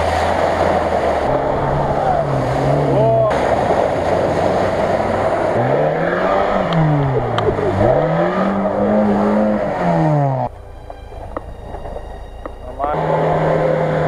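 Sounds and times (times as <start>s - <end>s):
off-road engine revving: 0.0s - 14.0s
water splashing and spray: 0.0s - 14.0s.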